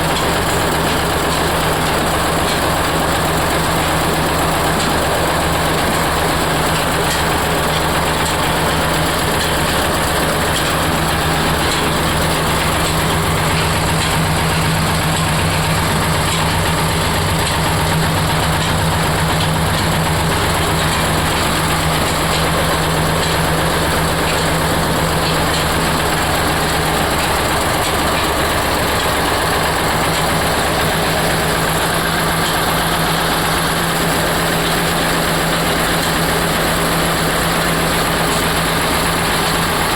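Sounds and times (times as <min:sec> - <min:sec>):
oil press machine humming: 0:00.0 - 0:39.9.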